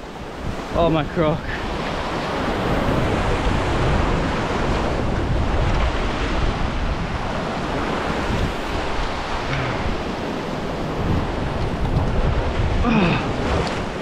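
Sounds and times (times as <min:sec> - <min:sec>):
surf washing on rocks: 0:00.0 - 0:14.0
wind buffeting microphone: 0:00.0 - 0:14.0.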